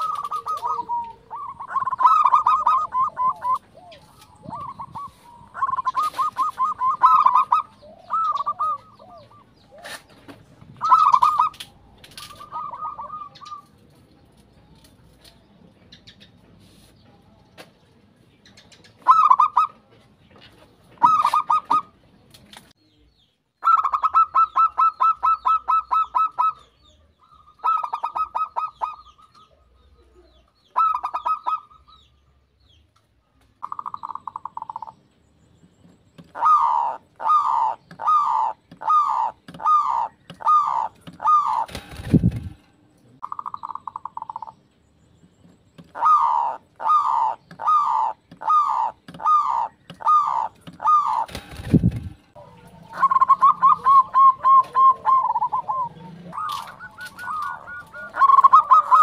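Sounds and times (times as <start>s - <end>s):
doves cooing: 0.0s - 14.3s, 18.8s - 20.0s, 20.9s - 22.0s, 23.6s - 32.0s, 33.6s - 35.0s, 36.2s - 44.6s, 45.8s - 59.0s.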